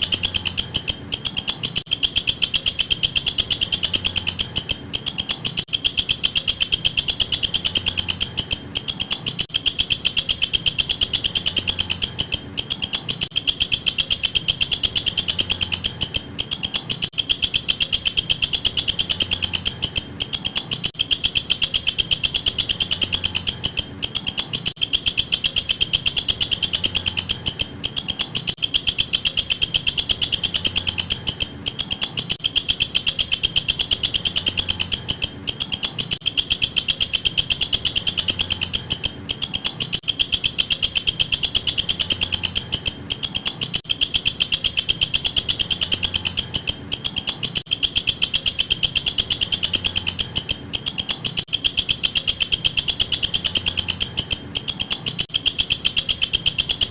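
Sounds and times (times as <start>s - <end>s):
insect chirping shrilly: 0.0s - 56.9s.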